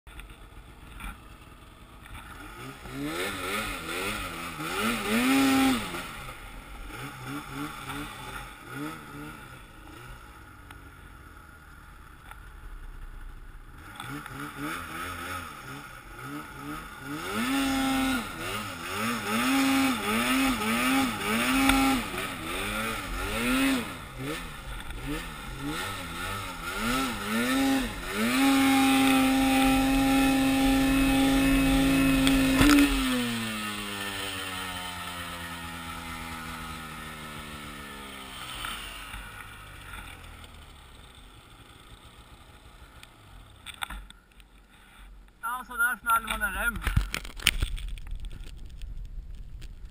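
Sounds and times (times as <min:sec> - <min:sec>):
snowmobile engine revving: 0:00.5 - 0:43.9, 0:45.4 - 0:47.0.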